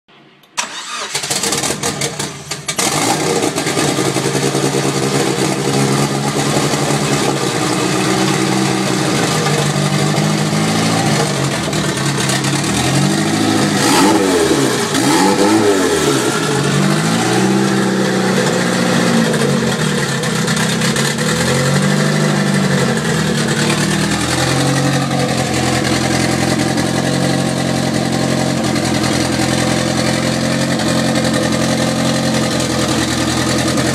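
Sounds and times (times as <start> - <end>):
car engine revving and idling: 0.6 - 33.9.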